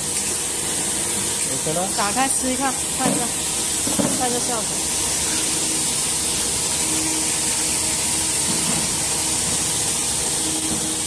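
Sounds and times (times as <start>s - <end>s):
hot air blower hissing: 0.0s - 11.0s.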